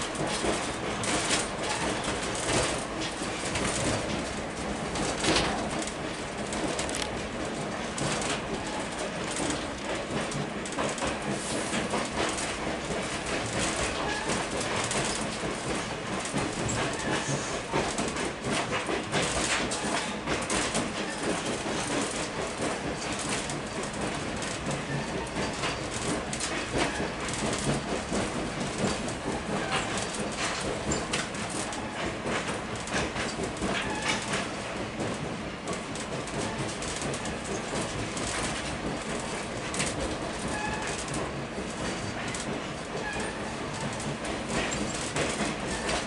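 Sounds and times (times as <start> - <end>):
train wheels rumbling on rails: 0.0 - 46.0
wheels clicking over rail joints: 0.0 - 46.0.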